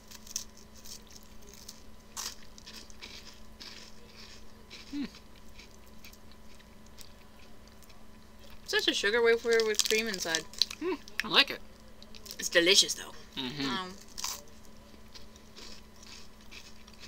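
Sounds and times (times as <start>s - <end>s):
crunching and chewing wafer: 0.0s - 8.7s, 9.3s - 12.4s, 13.9s - 17.0s.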